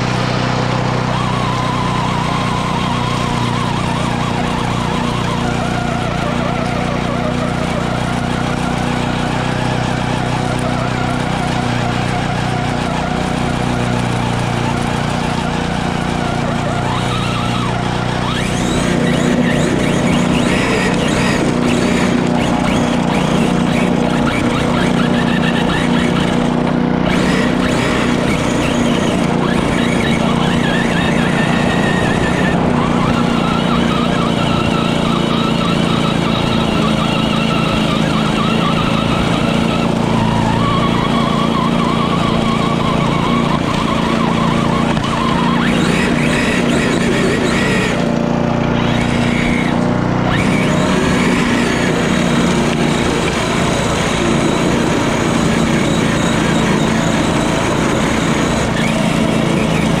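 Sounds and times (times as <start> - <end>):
electric motor whine: 0.0 - 60.0
lawnmower engine cutting grass: 0.0 - 60.0.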